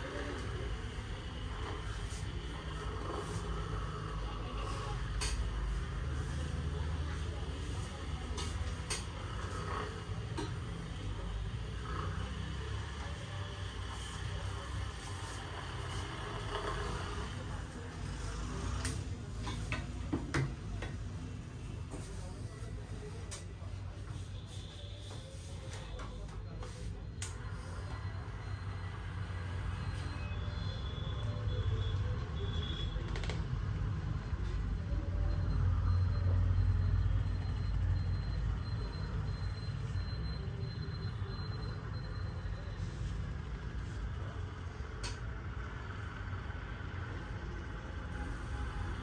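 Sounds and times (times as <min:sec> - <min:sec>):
street background rumble: 0:00.0 - 0:49.0.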